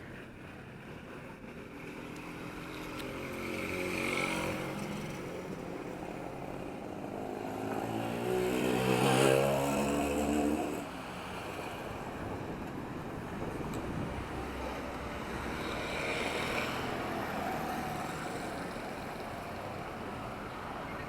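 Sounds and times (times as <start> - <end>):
motor vehicles passing: 1.0 - 21.0.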